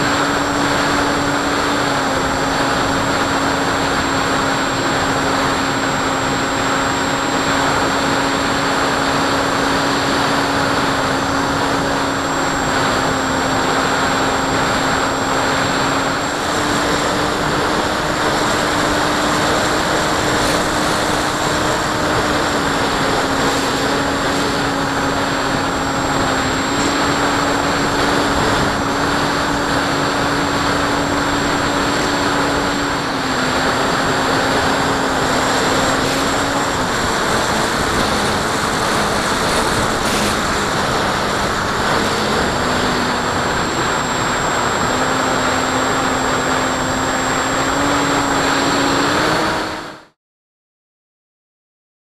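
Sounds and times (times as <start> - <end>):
rushing air: 0.0 - 50.0
electric propeller motor humming: 0.0 - 50.1.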